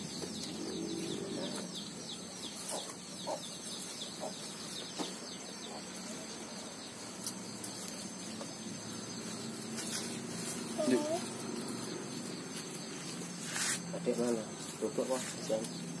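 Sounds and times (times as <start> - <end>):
chickens clucking: 0.1 - 15.8.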